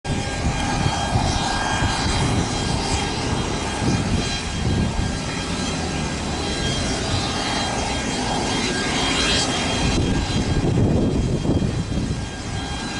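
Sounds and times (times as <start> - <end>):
airliner engines whining: 0.1 - 12.9.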